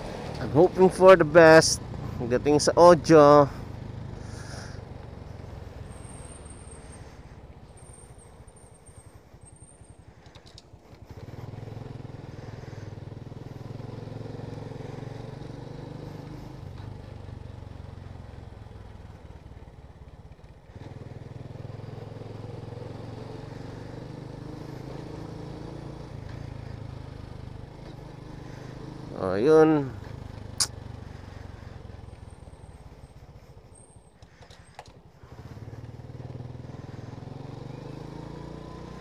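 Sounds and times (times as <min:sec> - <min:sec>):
motorcycle engine droning: 0:00.0 - 0:39.0.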